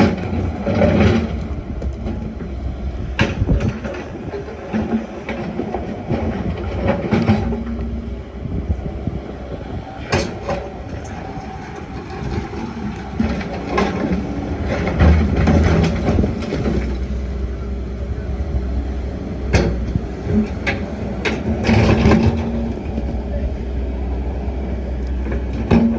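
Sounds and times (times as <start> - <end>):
excavator diesel engine: 0.0 - 25.9.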